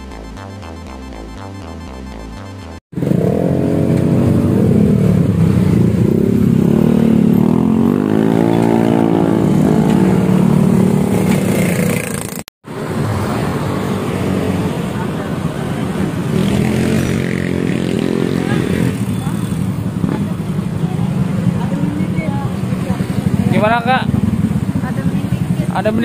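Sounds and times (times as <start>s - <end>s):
motorcycle and street traffic: 2.6s - 26.0s
scooter engine revving: 2.7s - 26.0s.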